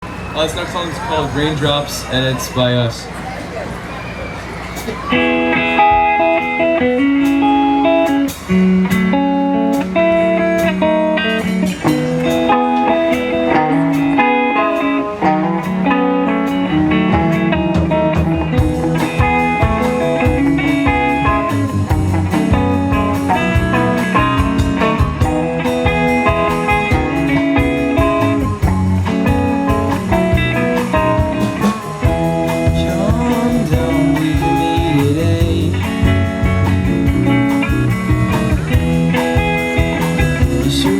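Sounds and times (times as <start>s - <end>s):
guitar: 0.0s - 40.9s
live band playing: 0.0s - 40.9s
steady drum beat: 4.8s - 40.9s.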